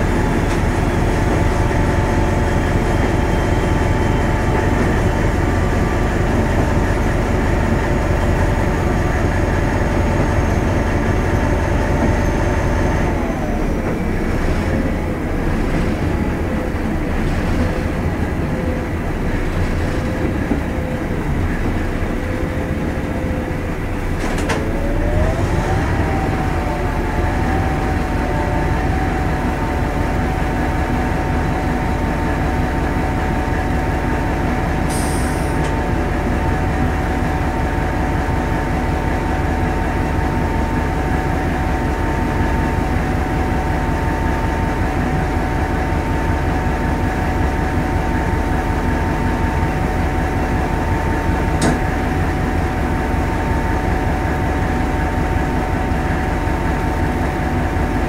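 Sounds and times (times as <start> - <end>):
diesel train engine drone: 0.0 - 58.0.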